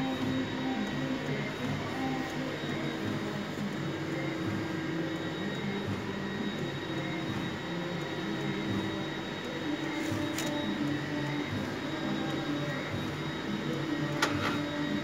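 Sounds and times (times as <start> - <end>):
printer carriage motor humming: 0.0 - 15.0.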